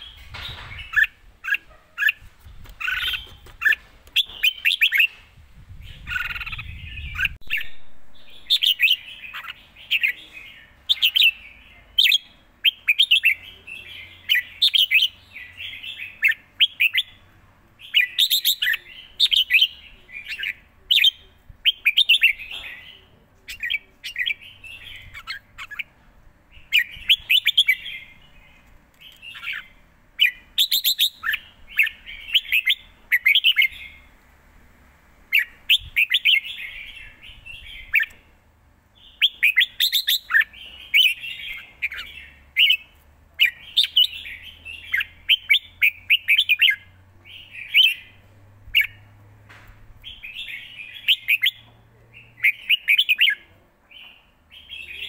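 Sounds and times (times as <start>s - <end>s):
bulbul singing: 0.0s - 34.2s, 35.3s - 38.3s, 39.0s - 49.1s, 50.0s - 55.0s.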